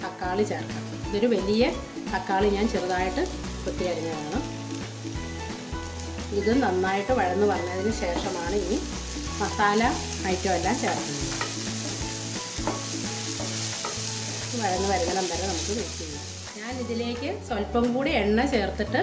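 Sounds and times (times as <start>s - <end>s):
vegetables sizzling in hot oil: 0.0s - 17.6s.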